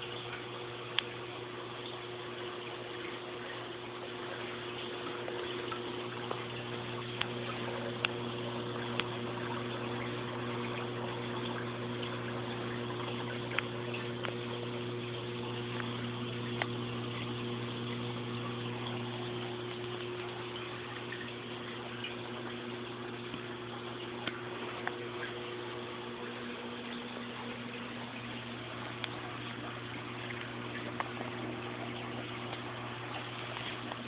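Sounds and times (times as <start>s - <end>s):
constant low hum: 0.0s - 34.0s
water rushing through pipes: 0.0s - 34.0s.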